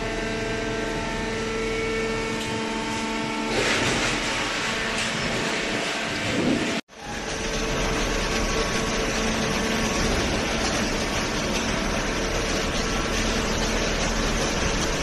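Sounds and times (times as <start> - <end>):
baler motor humming and whining: 0.0 - 15.0.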